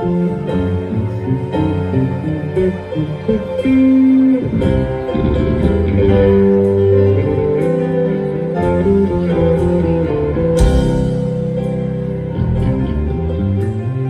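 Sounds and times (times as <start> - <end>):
rock band playing slow song: 0.0 - 14.0.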